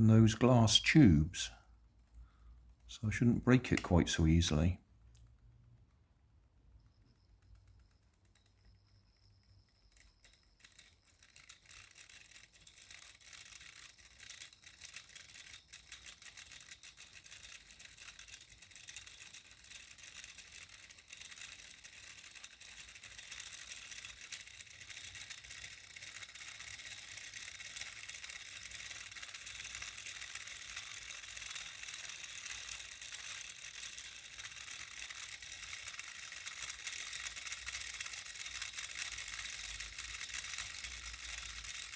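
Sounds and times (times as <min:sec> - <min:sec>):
motor clicking rattle: 0:07.3 - 0:41.9.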